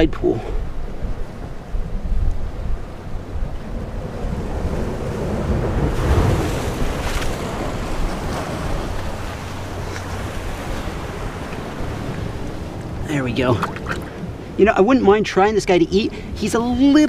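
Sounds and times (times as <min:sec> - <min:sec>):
wind buffeting microphone: 0:00.0 - 0:17.0
surf washing against rocks: 0:00.1 - 0:17.0.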